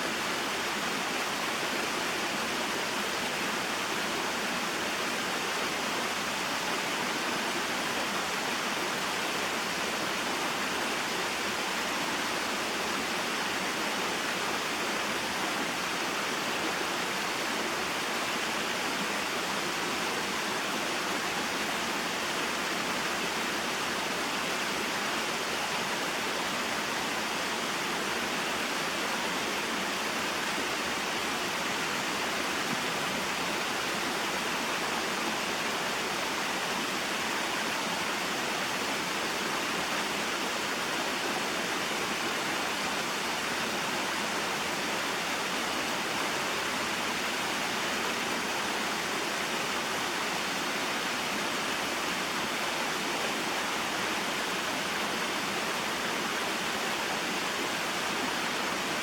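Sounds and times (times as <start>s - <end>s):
water rushing and falling: 0.0s - 59.0s.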